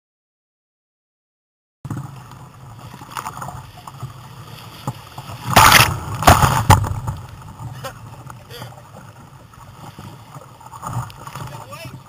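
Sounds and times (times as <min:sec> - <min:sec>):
churning water wash: 0:01.9 - 0:12.0
waves crashing splashes: 0:01.9 - 0:12.0.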